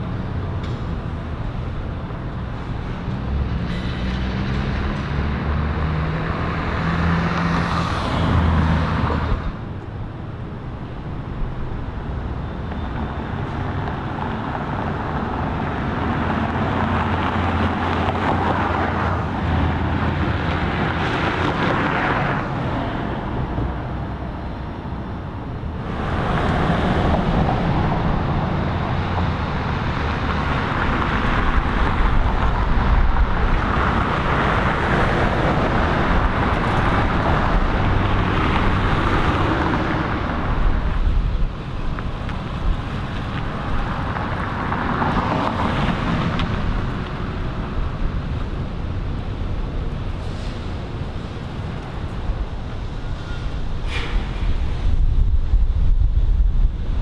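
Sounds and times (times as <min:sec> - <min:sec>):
cars going by: 0:00.0 - 0:57.0
vehicle engines running: 0:00.0 - 0:57.0.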